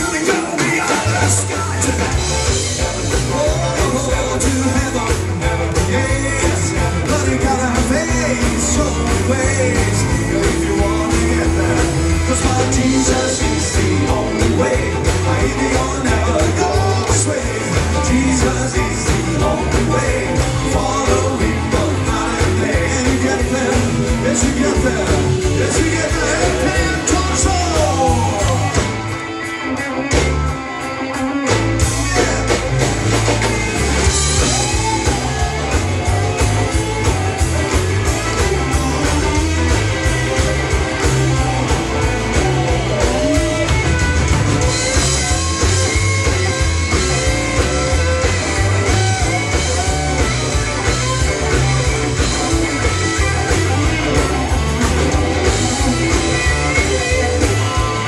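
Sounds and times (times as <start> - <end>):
bass and drum beat: 0.0 - 58.0
lead guitar with bending notes: 0.0 - 58.0.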